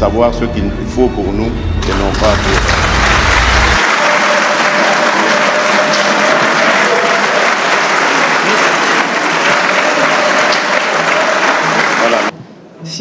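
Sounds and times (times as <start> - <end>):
crowd applauding loudly: 1.8 - 12.4.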